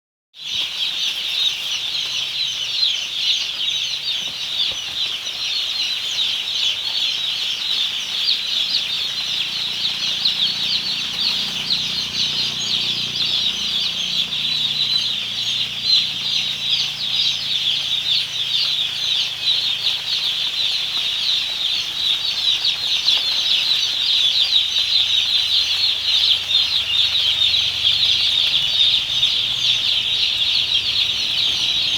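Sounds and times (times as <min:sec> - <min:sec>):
chicks peeping: 0:00.4 - 0:31.9.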